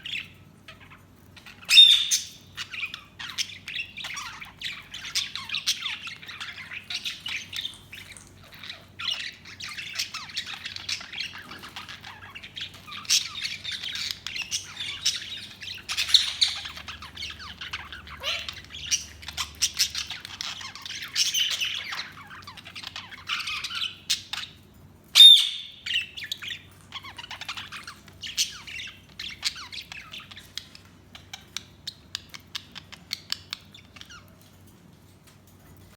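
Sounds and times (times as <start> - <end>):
budgies chattering: 0.0 - 35.4.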